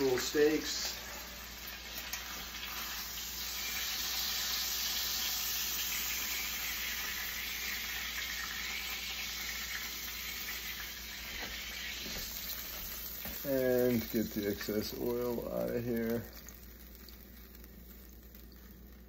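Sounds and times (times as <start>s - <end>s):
steaks sizzling in a frying pan: 0.0s - 19.0s.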